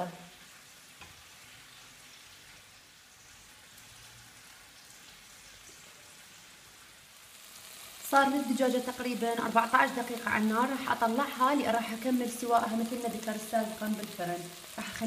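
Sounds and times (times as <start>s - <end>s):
chicken frying in a pan: 0.0s - 15.0s.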